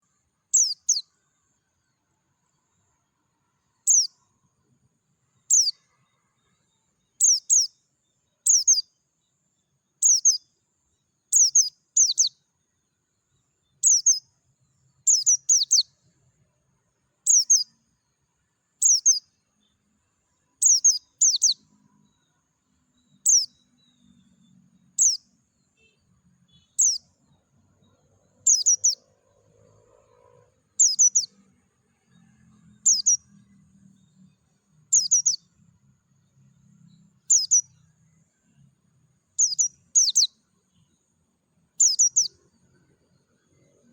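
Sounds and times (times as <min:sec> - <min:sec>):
bird chirping: 0:00.0 - 0:43.9.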